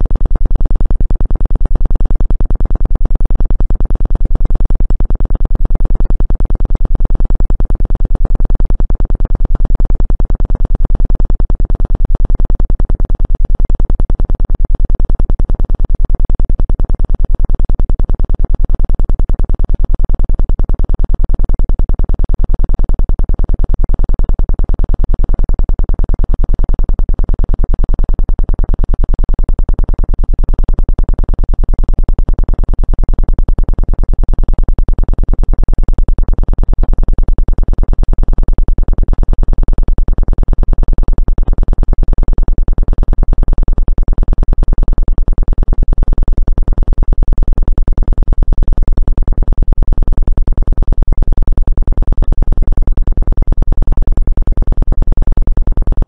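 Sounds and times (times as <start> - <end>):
low pulsing electronic buzz: 0.0 - 56.0.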